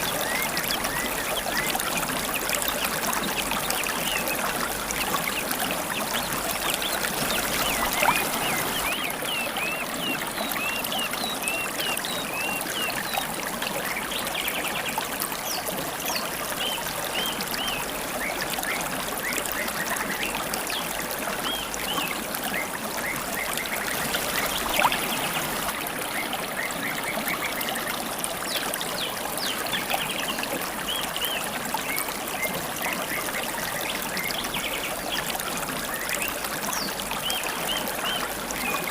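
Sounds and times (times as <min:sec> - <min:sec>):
river water trickling over stones: 0:00.0 - 0:38.9
songbirds chirping: 0:00.0 - 0:38.9.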